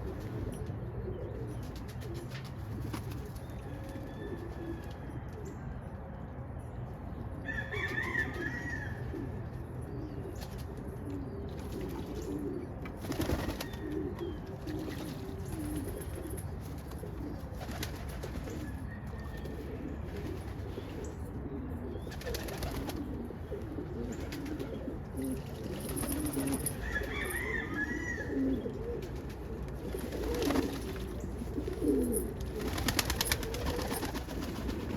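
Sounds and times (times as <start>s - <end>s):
pigeons cooing: 0.0s - 5.6s, 7.4s - 34.9s.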